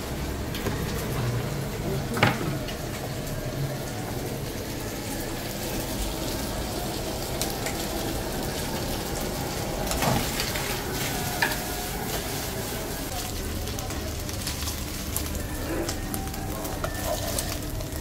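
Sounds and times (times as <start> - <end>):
sausage sizzling in a frying pan: 0.0 - 18.0.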